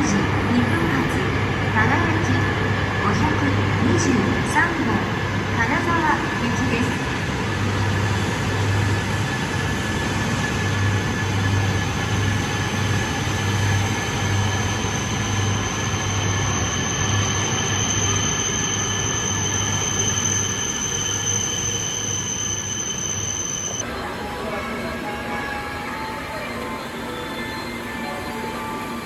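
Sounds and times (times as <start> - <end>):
train running noise: 0.0 - 29.0.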